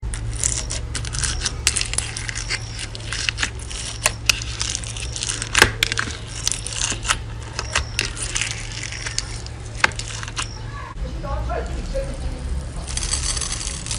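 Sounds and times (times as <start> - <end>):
slime crackling and popping: 0.0 - 10.6, 12.8 - 13.9
steady low hum: 0.0 - 13.9.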